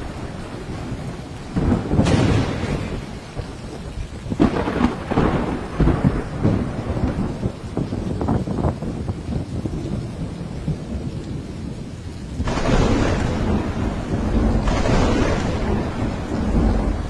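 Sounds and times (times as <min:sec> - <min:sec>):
heavy rain falling: 0:00.0 - 0:17.0
rolling thunder: 0:00.0 - 0:17.0.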